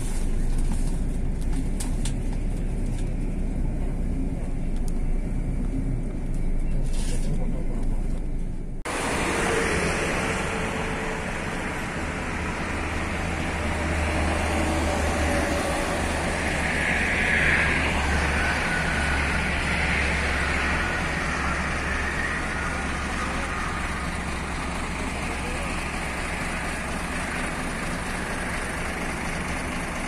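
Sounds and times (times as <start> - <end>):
bus engine drone: 0.0 - 30.0.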